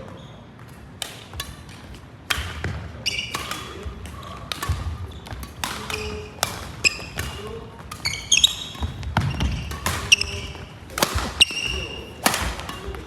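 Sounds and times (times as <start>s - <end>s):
racket hitting shuttlecock: 0.0s - 13.0s
shoes squeaking on court floor: 0.0s - 13.0s.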